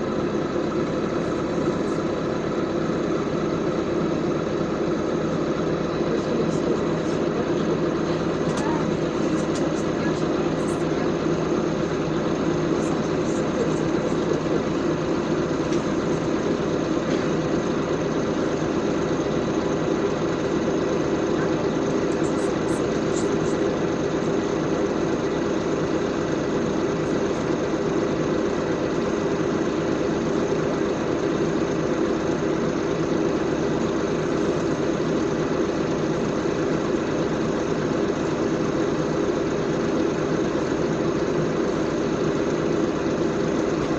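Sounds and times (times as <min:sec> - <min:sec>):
bus engine hum and rumble: 0:00.0 - 0:43.9.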